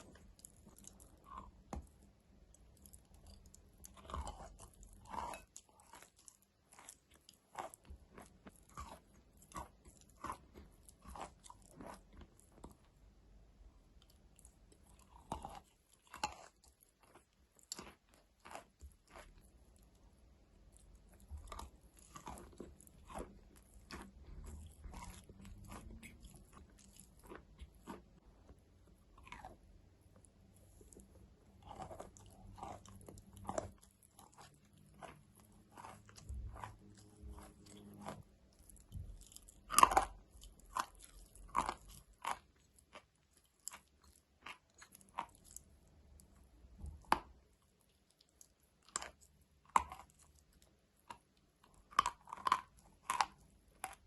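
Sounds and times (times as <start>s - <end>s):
crunchy chewing: 0.0s - 13.2s, 13.8s - 54.0s.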